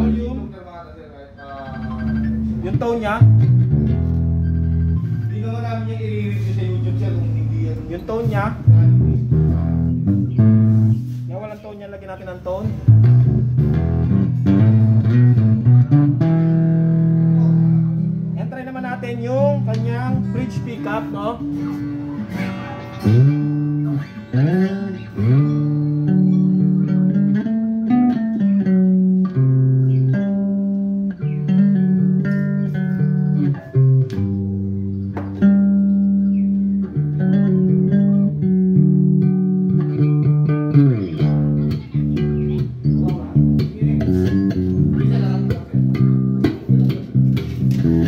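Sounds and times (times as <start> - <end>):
bass guitar plucked notes: 0.0 - 0.8, 1.4 - 48.0.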